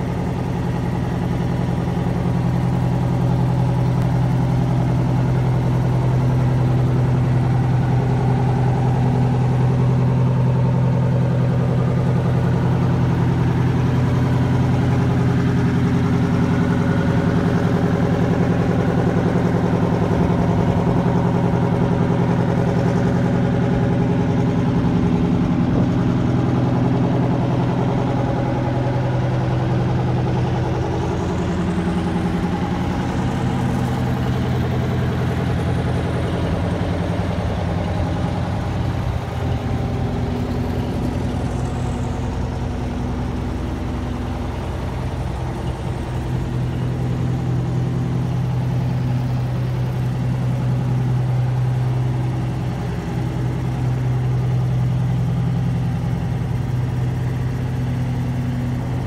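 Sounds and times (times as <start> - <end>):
motorhome engine idling: 0.0 - 59.0.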